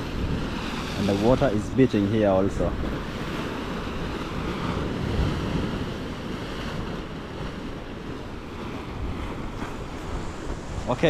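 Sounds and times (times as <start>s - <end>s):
sea waves breaking on rock: 0.0s - 11.0s
wind on microphone: 0.0s - 11.0s.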